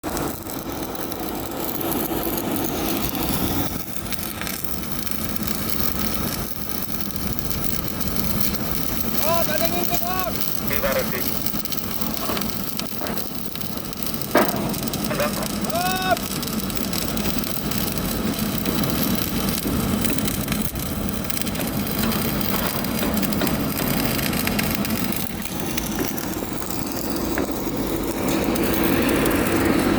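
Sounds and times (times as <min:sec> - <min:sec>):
welding arc crackling: 0:00.0 - 0:29.9
low machine drone: 0:00.1 - 0:29.9.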